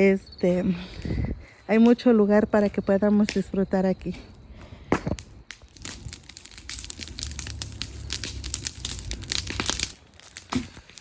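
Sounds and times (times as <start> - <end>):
low fire rumble: 0.7 - 11.0
bonfire crackling and popping: 1.8 - 11.0.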